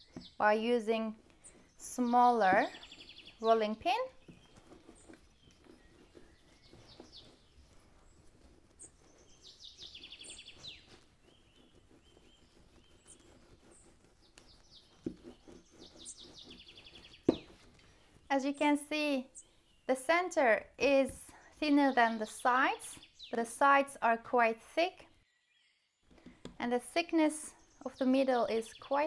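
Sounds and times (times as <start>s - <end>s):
faint songbird chirping: 0.0s - 29.0s.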